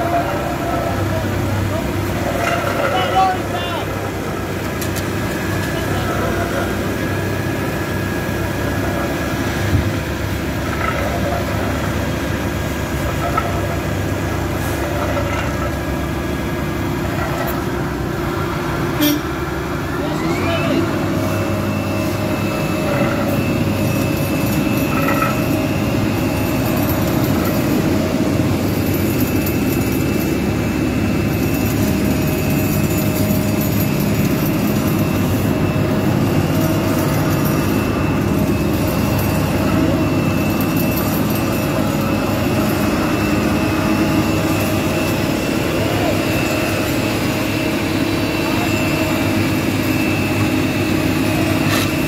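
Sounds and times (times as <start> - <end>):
diesel engine drone: 0.0 - 52.0
high-pitched whine: 0.0 - 52.0.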